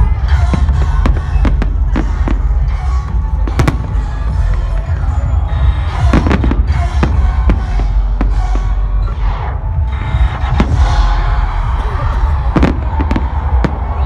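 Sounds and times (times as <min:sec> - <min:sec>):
electronic dance music: 0:00.0 - 0:14.0
fireworks bangs: 0:00.0 - 0:14.0.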